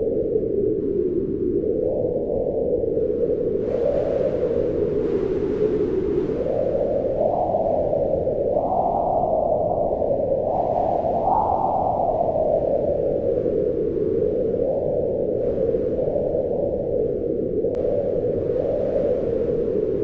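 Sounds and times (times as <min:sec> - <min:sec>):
strong wind howling: 0:00.0 - 0:20.0.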